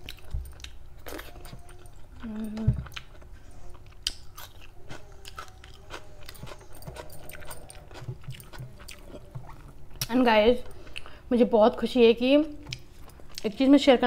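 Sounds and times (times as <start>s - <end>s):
person chewing food: 0.0s - 11.2s, 12.6s - 13.5s.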